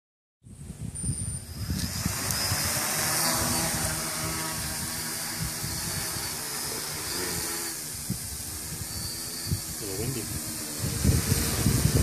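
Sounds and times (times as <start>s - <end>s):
quadcopter motors whining: 0.8s - 12.0s.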